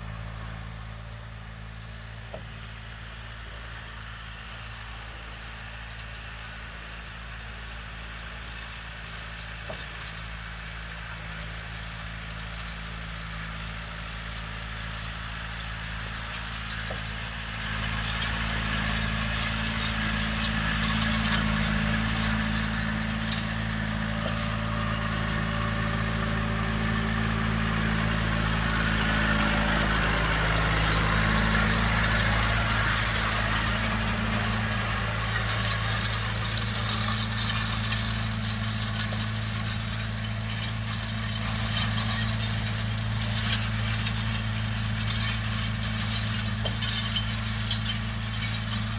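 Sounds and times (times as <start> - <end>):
tractor diesel engine under load: 0.0 - 48.9
grain drill rattling: 8.2 - 48.9.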